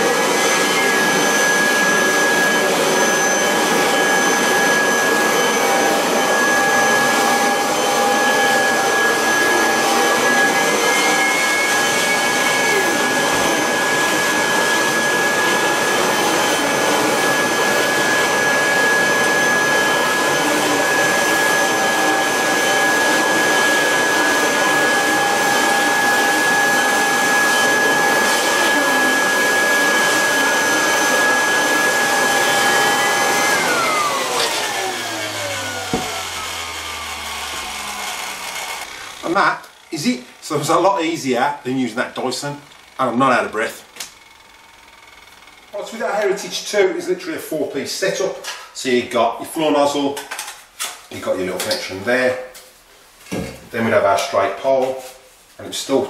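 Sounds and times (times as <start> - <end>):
vacuum cleaner running: 0.0 - 47.8.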